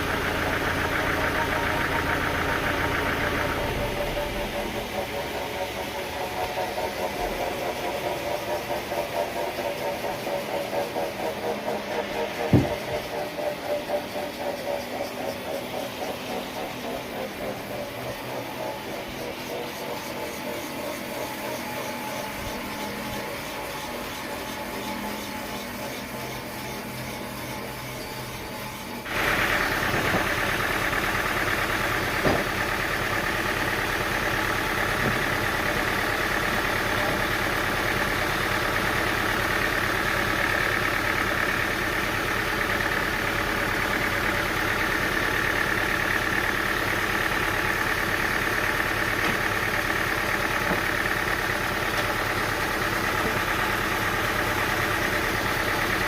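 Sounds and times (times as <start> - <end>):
high machine whine: 0.0 - 56.0
machinery engine running: 0.0 - 56.0.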